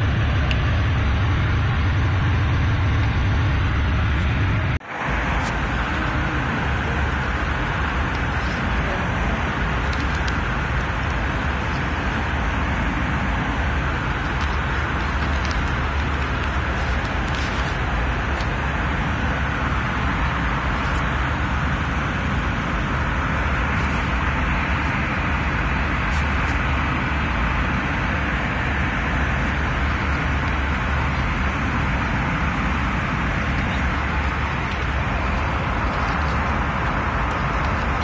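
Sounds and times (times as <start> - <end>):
airplane cabin noise: 0.0 - 38.0.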